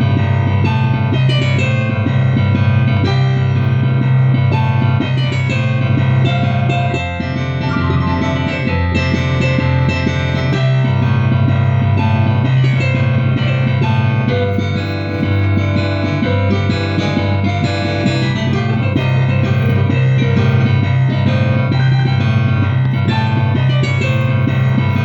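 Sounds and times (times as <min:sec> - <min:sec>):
barrel organ playing: 0:00.0 - 0:25.0.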